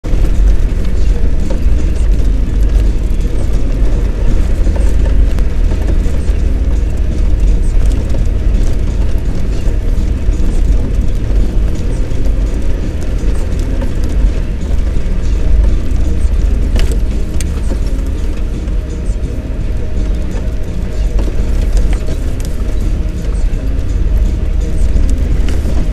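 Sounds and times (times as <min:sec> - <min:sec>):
car cabin rumble on gravel: 0:00.0 - 0:25.9.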